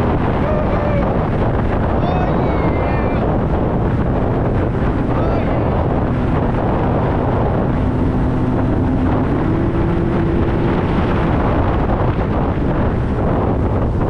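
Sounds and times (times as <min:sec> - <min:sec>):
watercraft engine running: 0:00.0 - 0:14.0
wind on microphone: 0:00.0 - 0:14.0.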